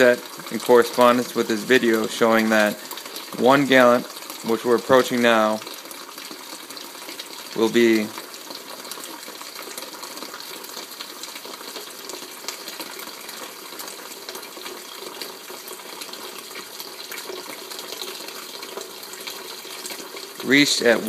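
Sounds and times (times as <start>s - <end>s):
faucet stream splashing into bucket: 0.0s - 21.0s.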